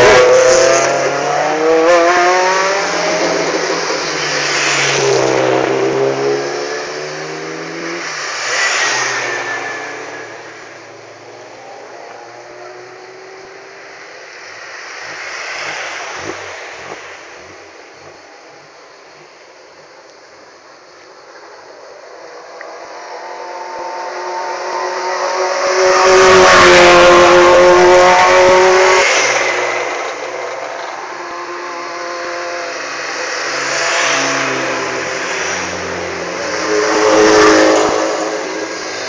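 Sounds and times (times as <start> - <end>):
race car engines revving: 0.0 - 18.8, 21.6 - 39.0.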